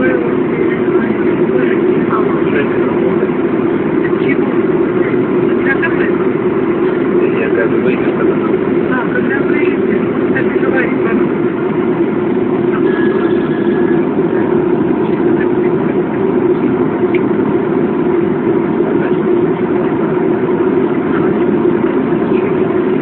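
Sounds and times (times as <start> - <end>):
jet engine drone in cabin: 0.0 - 23.0.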